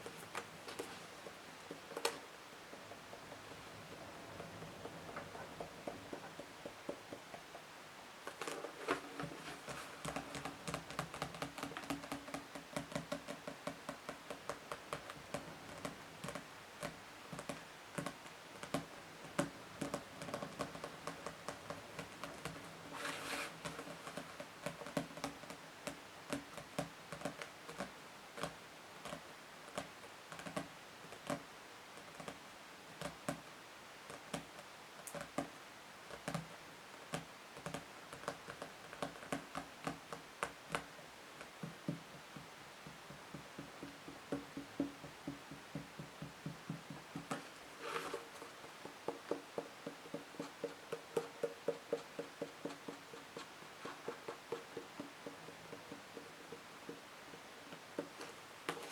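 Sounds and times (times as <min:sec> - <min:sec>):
fingers tapping on books: 0:00.0 - 0:58.9.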